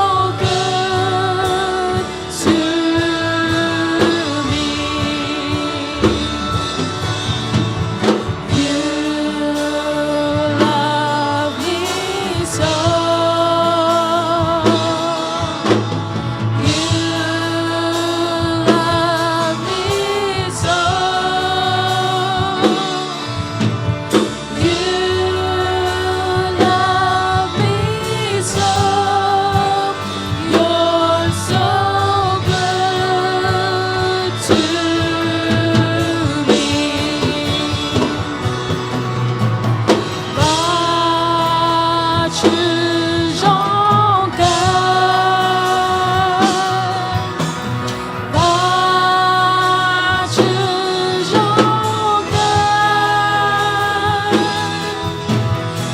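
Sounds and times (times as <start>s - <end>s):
band with guitar and beat: 0.0s - 55.9s
person singing: 0.0s - 55.9s.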